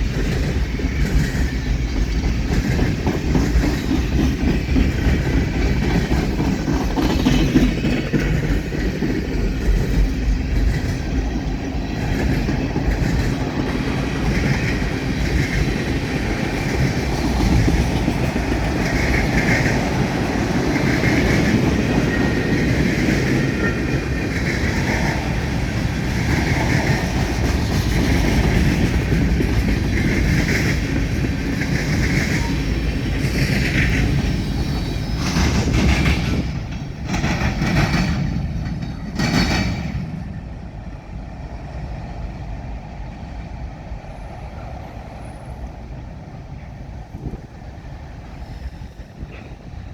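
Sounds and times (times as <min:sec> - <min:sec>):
wheels clattering over rail joints: 0:00.0 - 0:40.4
freight train rumbling: 0:00.0 - 0:49.9.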